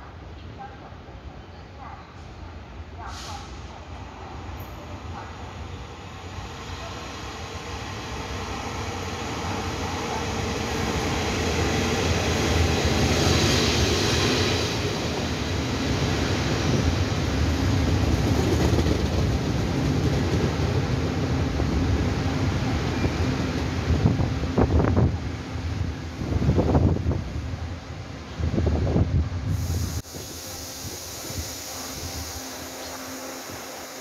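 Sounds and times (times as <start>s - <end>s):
train wheels rumbling on rails: 3.0s - 34.0s.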